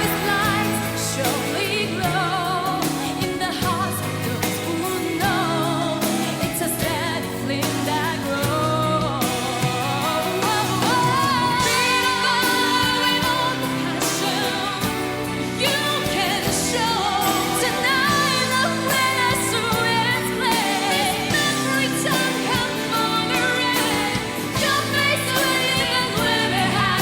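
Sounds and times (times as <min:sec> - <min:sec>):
band accompaniment: 0:00.0 - 0:27.0
person singing with vibrato: 0:00.0 - 0:27.0.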